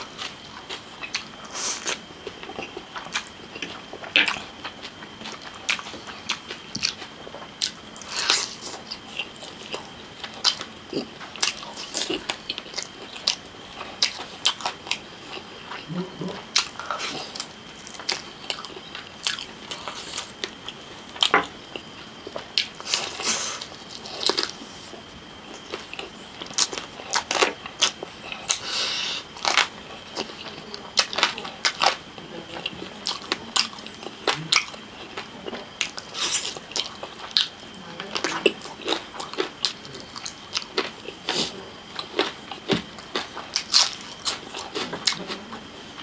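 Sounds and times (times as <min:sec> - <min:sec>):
wet chewing: 0:00.0 - 0:46.0.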